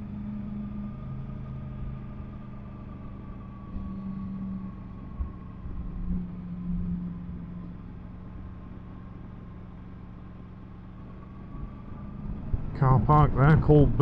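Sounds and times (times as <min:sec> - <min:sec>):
motorcycle engine humming: 0:00.0 - 0:14.0
wind and road noise: 0:00.0 - 0:14.0.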